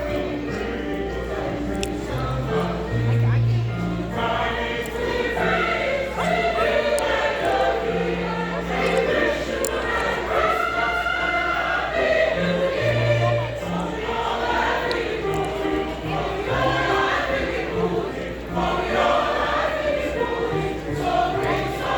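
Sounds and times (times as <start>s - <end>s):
choir singing: 0.0s - 21.9s.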